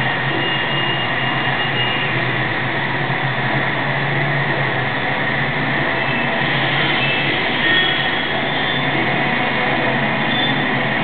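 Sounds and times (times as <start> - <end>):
loud rushing drone: 2.1 - 11.0.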